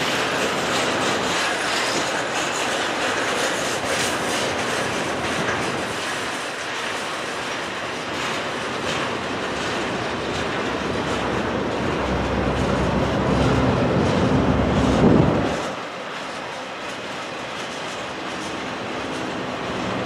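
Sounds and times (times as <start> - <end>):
steel wheels rumbling on rails: 0.0 - 20.0
wheels clicking over rail joints: 0.0 - 20.0.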